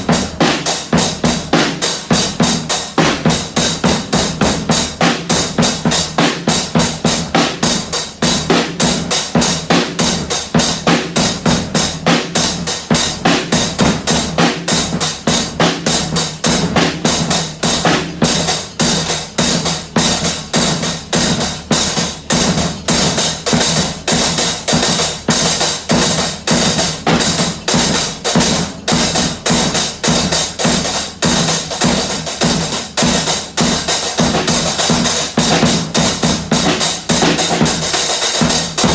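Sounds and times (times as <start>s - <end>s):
drums beating fast: 0.0s - 38.9s.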